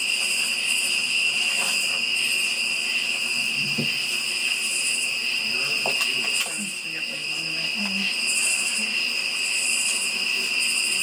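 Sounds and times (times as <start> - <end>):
cricket trill: 0.0 - 11.0
insects buzzing chorus: 0.0 - 11.0.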